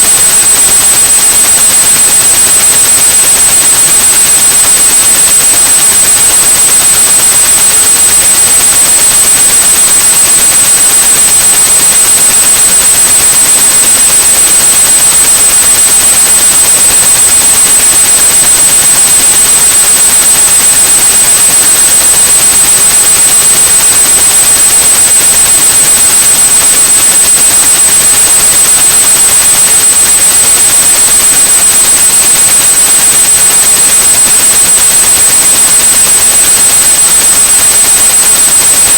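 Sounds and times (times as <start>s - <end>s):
high-pitched steady tone: 0.0s - 36.6s.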